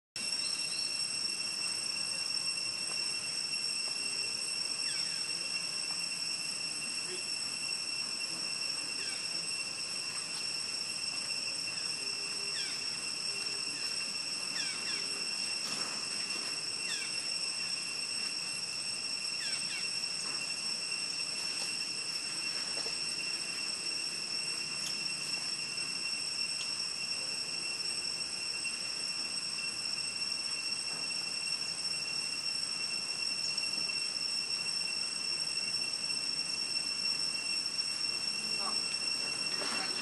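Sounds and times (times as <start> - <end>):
insect chorus shrilling: 0.2 - 40.0.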